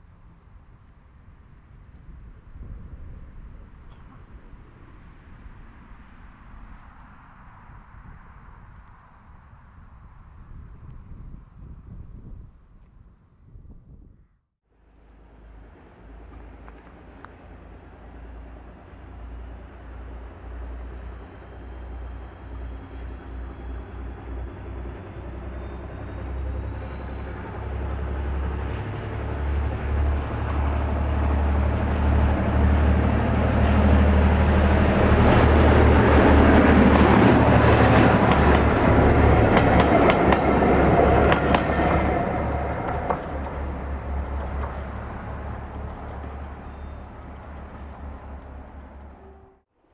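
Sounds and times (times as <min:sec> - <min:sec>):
diesel train engine passing: 0:00.0 - 0:10.2, 0:14.8 - 0:49.7.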